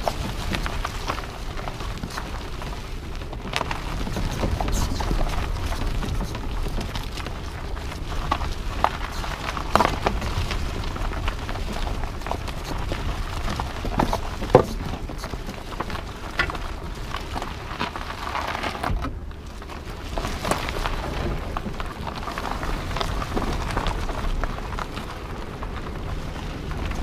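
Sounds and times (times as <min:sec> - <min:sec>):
tyres crunching over gravel: 0:00.0 - 0:27.0.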